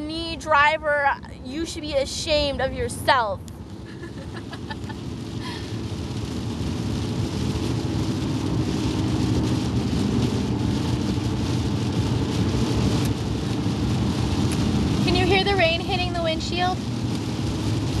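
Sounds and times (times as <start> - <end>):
car rumbling on wet road: 0.0 - 18.0
heavy rain on windshield: 0.0 - 18.0.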